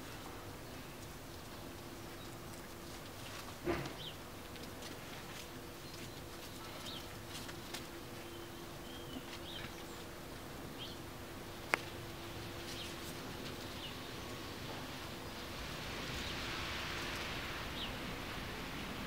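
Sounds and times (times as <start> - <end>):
small birds chirping: 0.0 - 18.2
steady low hum: 0.0 - 19.0.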